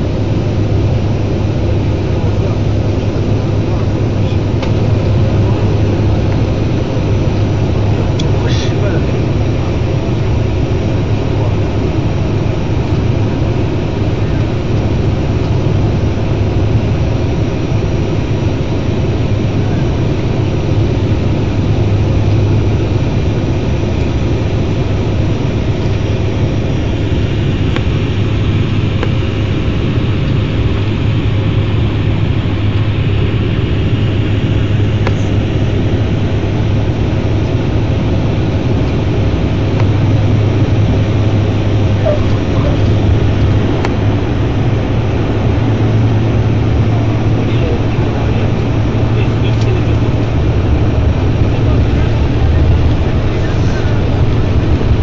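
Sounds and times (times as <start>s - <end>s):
turboprop engine drone in cabin: 0.0s - 55.0s.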